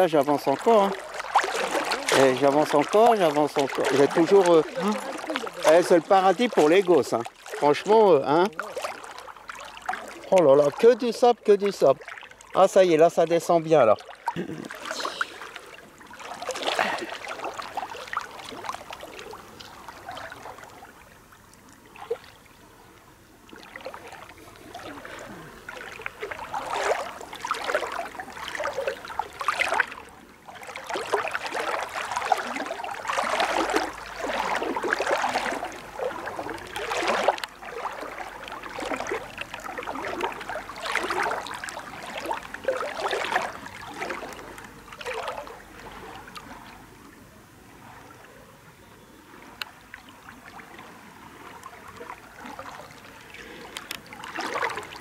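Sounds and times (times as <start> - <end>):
sea water splashing around legs: 0.0 - 47.2, 49.4 - 55.0.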